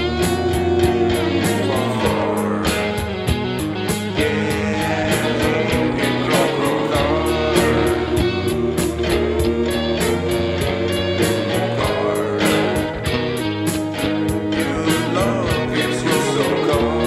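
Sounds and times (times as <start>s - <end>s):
rock song: 0.0s - 17.0s.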